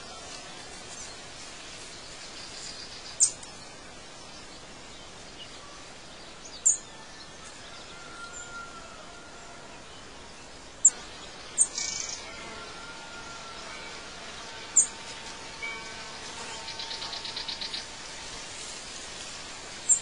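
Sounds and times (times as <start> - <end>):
faint bird warbling song: 0.0 - 19.1, 19.8 - 20.0
outdoor background hiss: 0.0 - 20.0.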